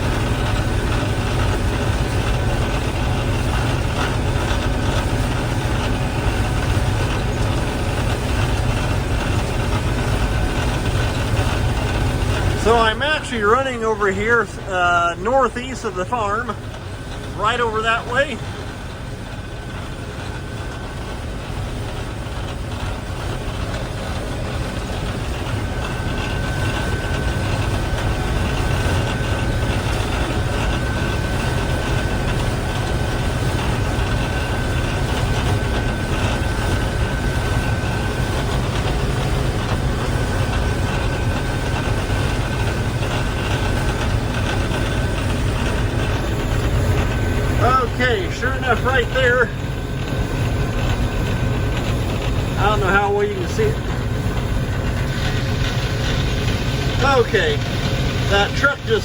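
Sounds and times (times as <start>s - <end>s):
combine harvester rumbling: 0.0s - 59.0s
thin steady whine: 0.0s - 59.0s.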